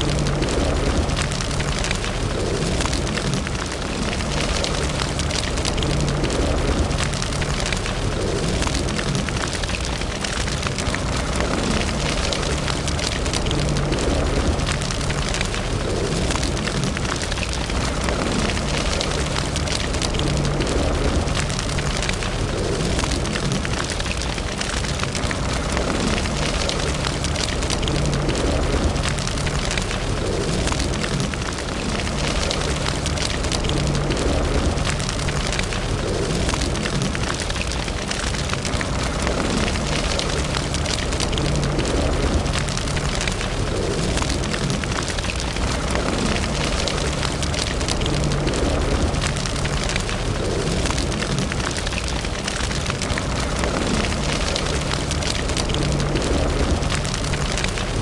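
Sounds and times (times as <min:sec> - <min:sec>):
low rumble of flame: 0:00.0 - 0:58.0
wood fire crackling: 0:00.0 - 0:58.0.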